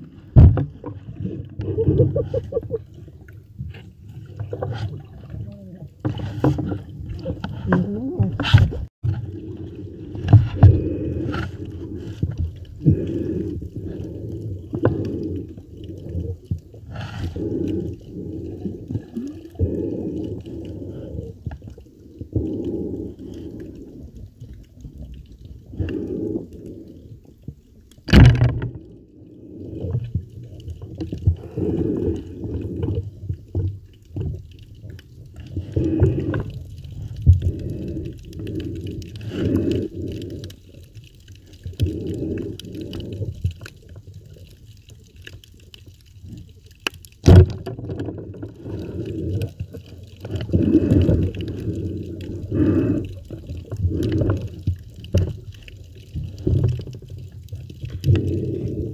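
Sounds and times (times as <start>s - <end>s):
underwater swishes of water: 0.0s - 58.9s.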